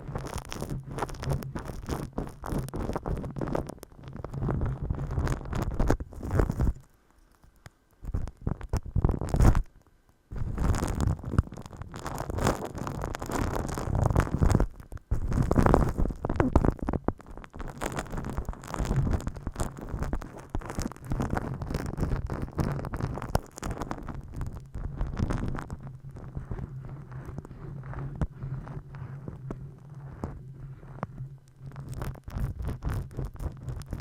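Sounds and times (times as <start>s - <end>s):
hands rubbing on microphone: 0.0s - 6.9s, 10.3s - 34.0s.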